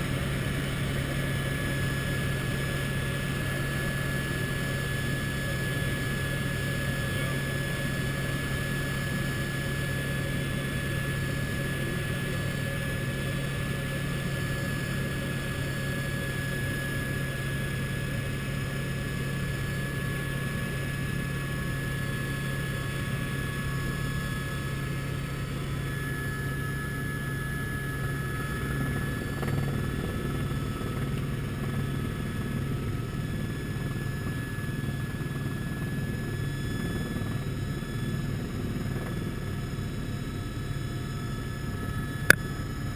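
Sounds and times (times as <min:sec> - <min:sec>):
helicopter rotor and engine drone: 0:00.0 - 0:42.9.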